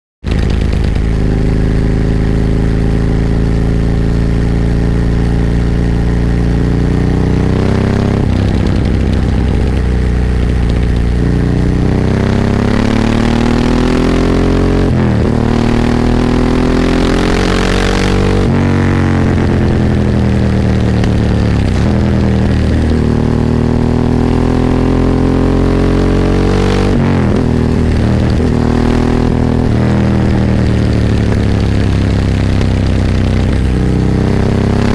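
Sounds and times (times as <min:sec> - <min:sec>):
motorcycle engine revving while riding: 0:00.3 - 0:34.9.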